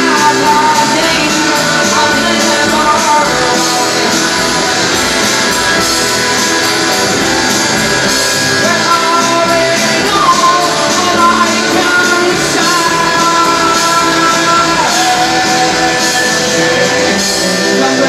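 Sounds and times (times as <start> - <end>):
rock music with guitar: 0.0 - 18.0.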